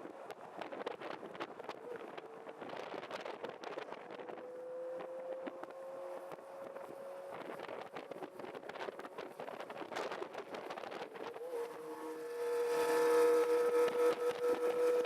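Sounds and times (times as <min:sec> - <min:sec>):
motorcycle engine and exhaust: 0:00.0 - 0:15.0
wind buffeting microphone: 0:00.0 - 0:15.0.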